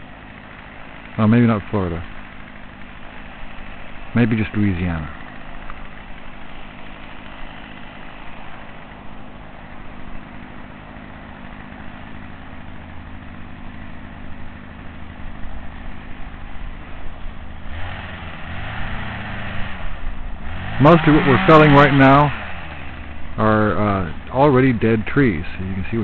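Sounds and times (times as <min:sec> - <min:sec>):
chainsaw idling: 0:00.0 - 0:26.0.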